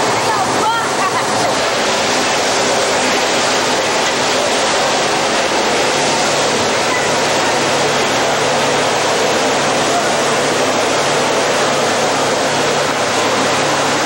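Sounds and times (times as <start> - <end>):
fire hose water rushing: 0.0 - 14.0.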